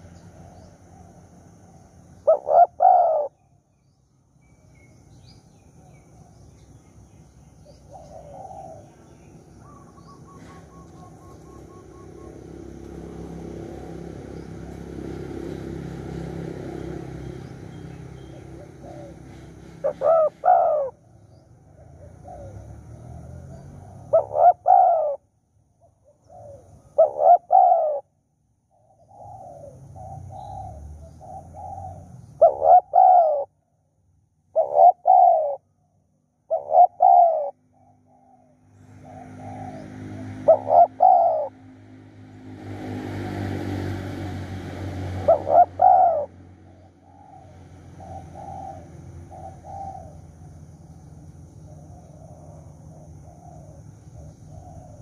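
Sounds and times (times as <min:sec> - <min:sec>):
doves cooing: 0:02.1 - 0:03.4, 0:07.6 - 0:28.1, 0:28.8 - 0:33.6, 0:34.5 - 0:35.7, 0:36.5 - 0:42.3, 0:43.8 - 0:55.0.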